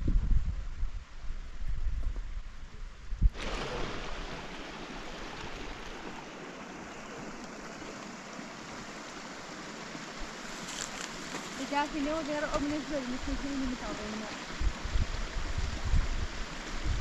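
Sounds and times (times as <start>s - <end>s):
water rushing: 3.3s - 17.0s.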